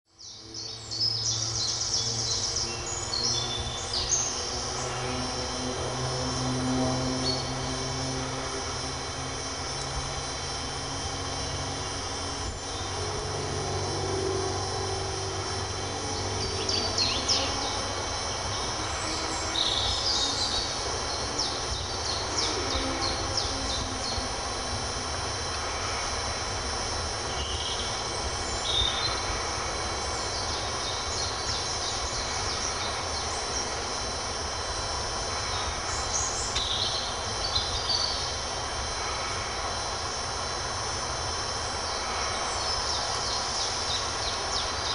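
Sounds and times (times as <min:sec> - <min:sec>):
birds singing: 0:00.2 - 0:44.9.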